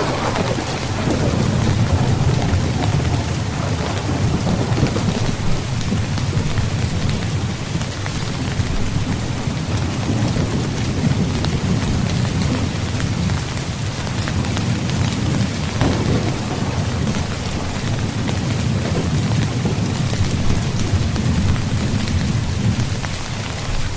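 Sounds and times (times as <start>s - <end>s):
rain falling on a tent: 0.0s - 23.9s.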